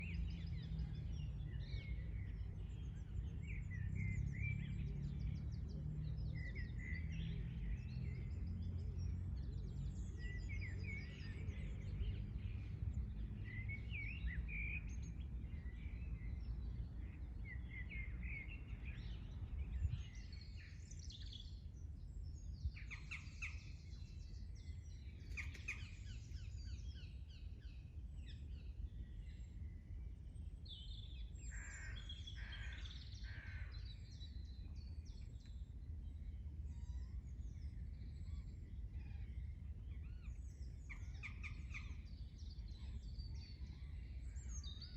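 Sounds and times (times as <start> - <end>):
songbirds singing and chirping: 0.0 - 44.9.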